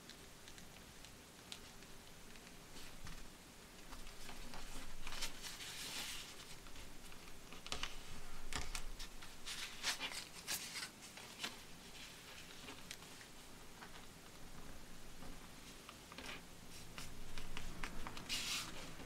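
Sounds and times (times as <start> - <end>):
paper rustling: 1.5 - 14.1, 15.2 - 19.0.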